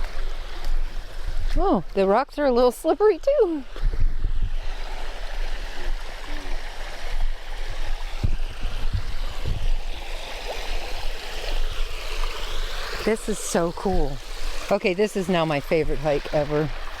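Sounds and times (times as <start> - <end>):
creek water gurgling over rocks: 0.0 - 17.0.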